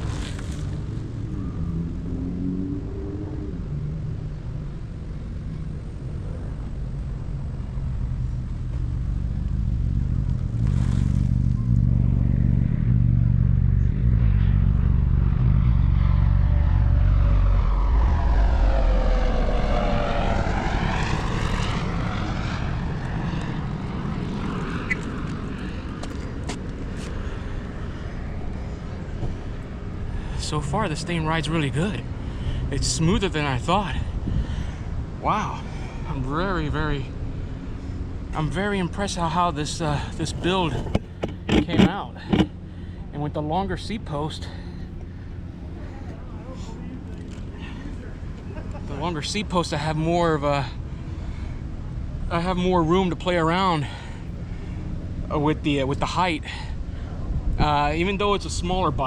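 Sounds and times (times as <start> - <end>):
propeller airplane drone: 0.0 - 59.0.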